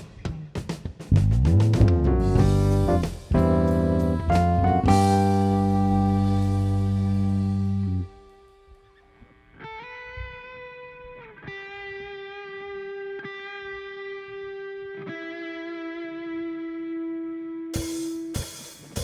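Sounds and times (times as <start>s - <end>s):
electric guitar long held notes: 2.4s - 17.7s.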